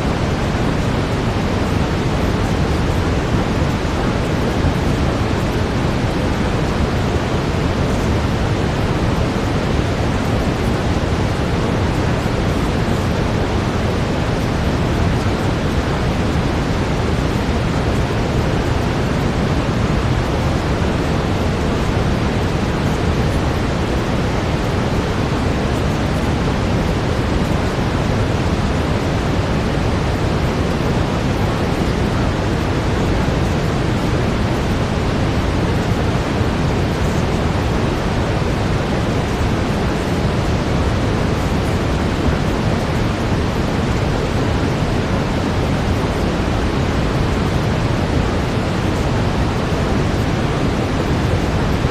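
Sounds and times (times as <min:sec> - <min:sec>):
brown noise: 0:00.0 - 0:51.9.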